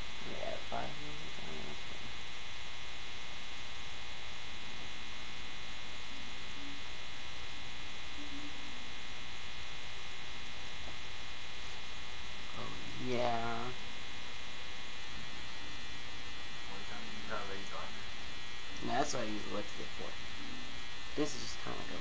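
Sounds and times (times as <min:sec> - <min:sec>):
electrical buzz and hum: 0:00.0 - 0:22.0.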